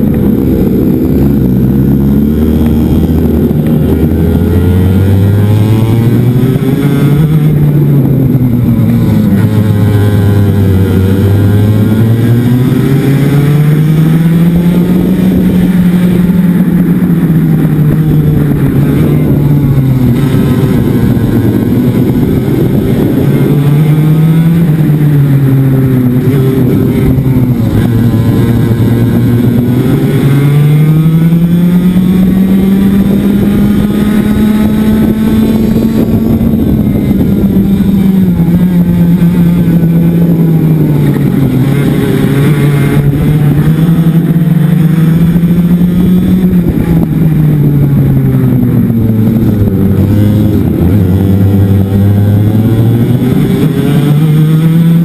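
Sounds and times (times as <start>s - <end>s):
racing kart engine accelerating: 0.0s - 55.0s.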